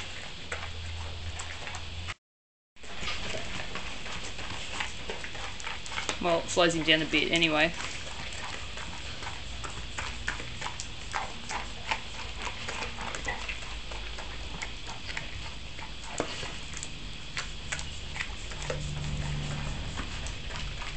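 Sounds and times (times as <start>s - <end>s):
dog crunching food: 2.8s - 20.9s.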